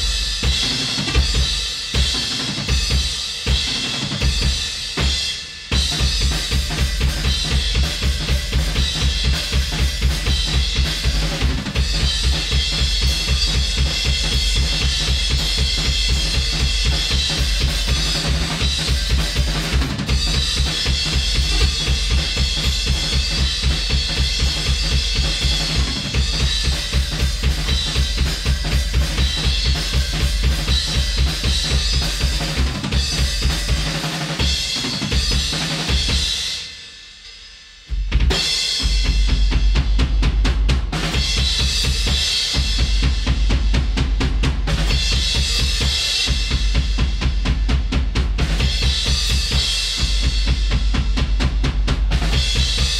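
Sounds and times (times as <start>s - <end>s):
drum kit beat: 0.0s - 52.9s.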